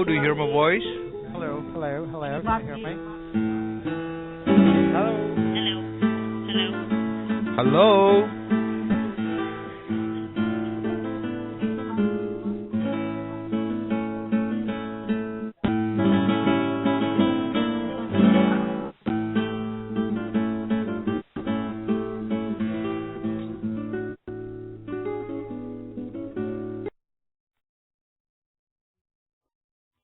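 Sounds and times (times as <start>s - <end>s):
acoustic guitar music over phone line: 0.0s - 26.9s.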